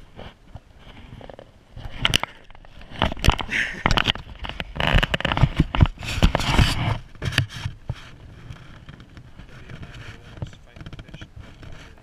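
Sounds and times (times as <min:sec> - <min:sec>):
microphone handling noise: 0:00.0 - 0:12.0.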